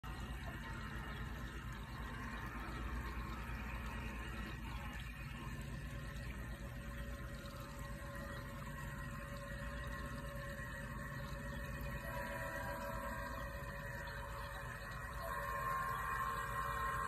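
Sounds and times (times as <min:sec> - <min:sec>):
water trickling over rocks: 0:00.0 - 0:17.0.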